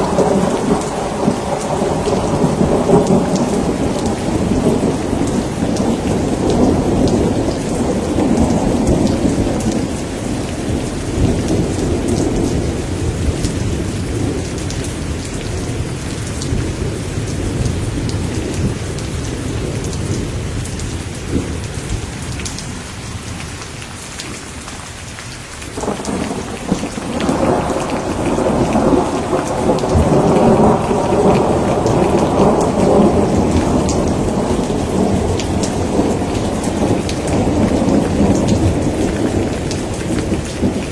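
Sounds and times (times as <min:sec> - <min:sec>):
rolling thunder: 0:00.0 - 0:22.5, 0:25.8 - 0:40.9
steady rain: 0:00.0 - 0:40.9.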